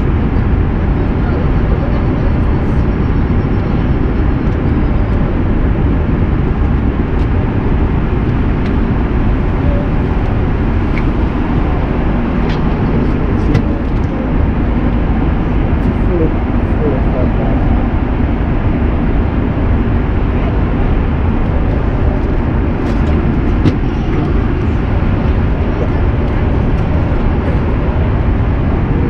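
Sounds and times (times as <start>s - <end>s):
aircraft cabin engine noise: 0.0s - 29.0s.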